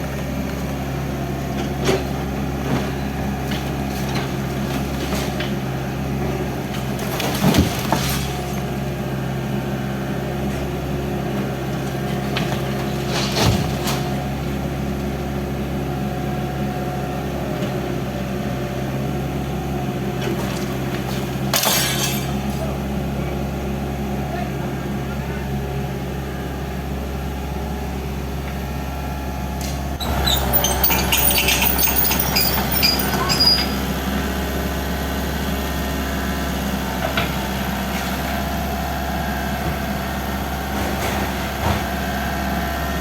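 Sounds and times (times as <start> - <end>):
excavator engine running: 0.0 - 21.5, 22.3 - 43.0.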